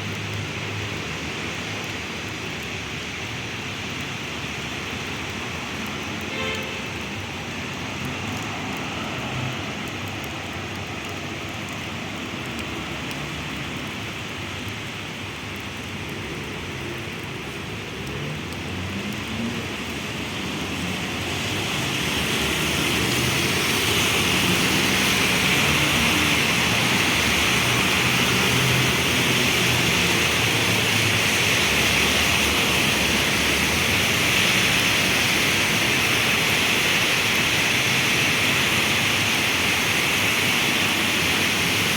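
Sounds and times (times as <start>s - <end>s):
heavy rain on street: 0.0s - 41.9s
low traffic rumble: 0.0s - 41.9s.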